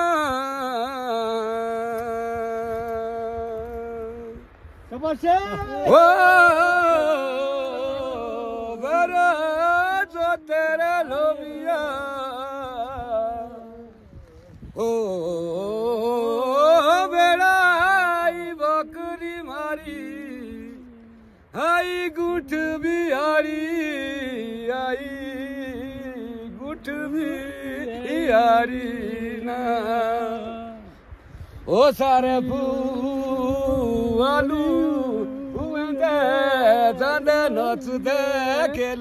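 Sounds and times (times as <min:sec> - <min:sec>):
man singing unaccompanied: 0:00.0 - 0:39.0.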